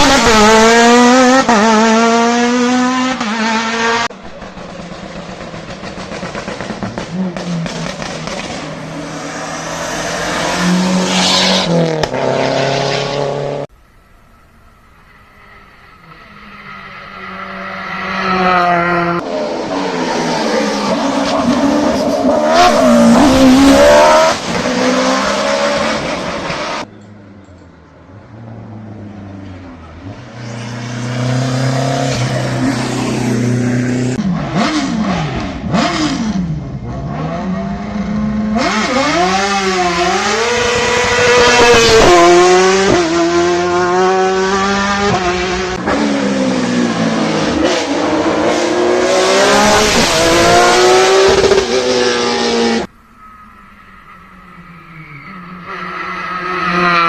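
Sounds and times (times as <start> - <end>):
race car engines accelerating: 0.0 - 13.7, 14.8 - 57.0.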